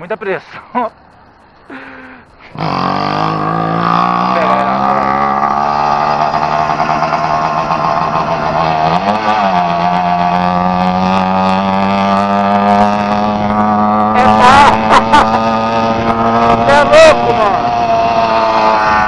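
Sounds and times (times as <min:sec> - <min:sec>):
two-stroke engine running: 0:02.5 - 0:19.0.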